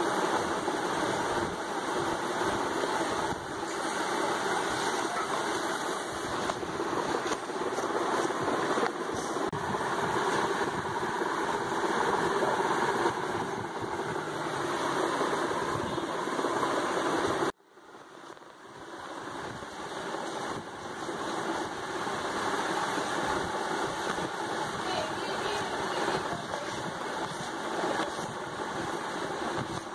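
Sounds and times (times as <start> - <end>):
engine-like running noise: 0.0 - 29.9.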